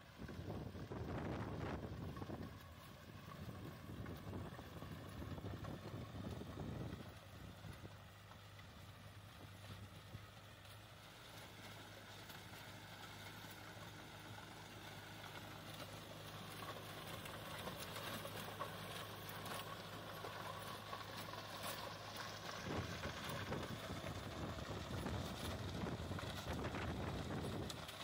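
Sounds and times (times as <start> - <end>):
rotavator blades churning soil: 0.0 - 28.0
tractor diesel engine under load: 0.0 - 28.0.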